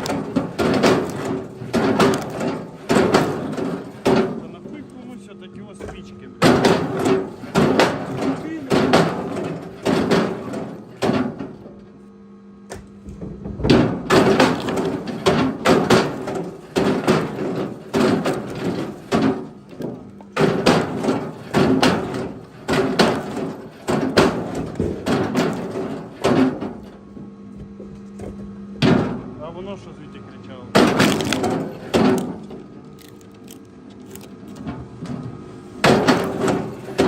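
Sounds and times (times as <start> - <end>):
firewood knocking and clattering: 0.0 - 11.8, 12.7 - 29.2, 30.8 - 37.0
steady low hum: 0.0 - 37.0.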